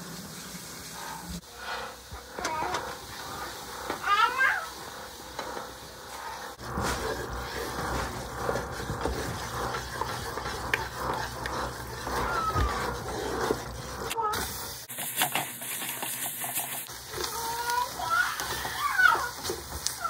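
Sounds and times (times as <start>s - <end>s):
wooden spatula scraping saucepan: 0.3s - 20.0s.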